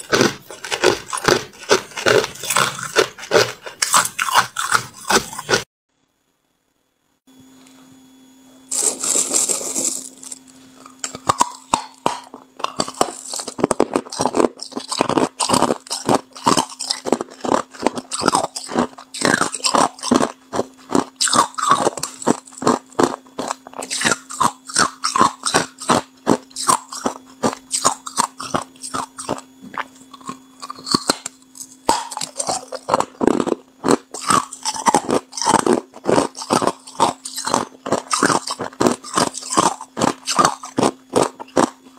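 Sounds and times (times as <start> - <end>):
ice crunching while chewed: 0.0 - 5.7, 8.7 - 41.9
steady low hum: 0.0 - 41.9.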